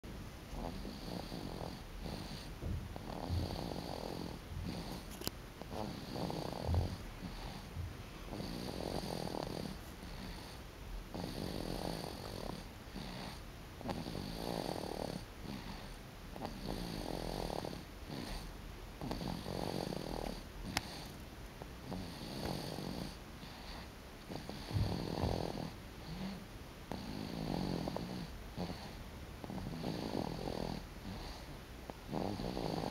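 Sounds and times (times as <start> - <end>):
rough rattling snore: 0.6 - 7.7, 8.3 - 21.2, 21.8 - 31.5, 32.1 - 32.9.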